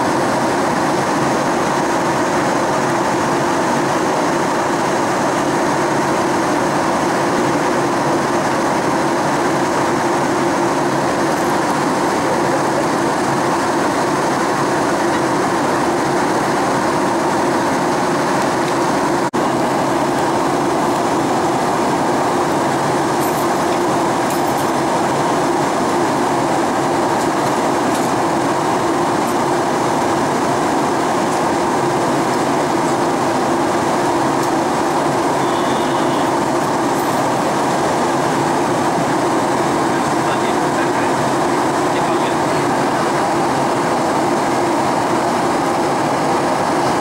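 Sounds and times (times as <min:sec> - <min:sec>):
jet engines humming: 0:00.0 - 0:47.0.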